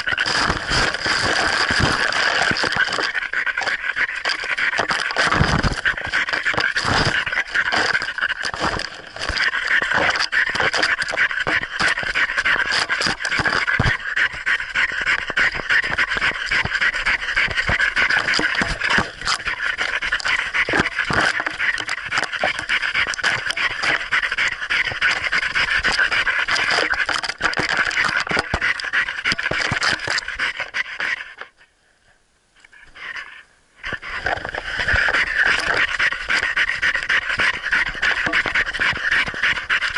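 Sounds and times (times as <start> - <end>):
dog panting hard: 0.1 - 31.2, 34.0 - 39.9.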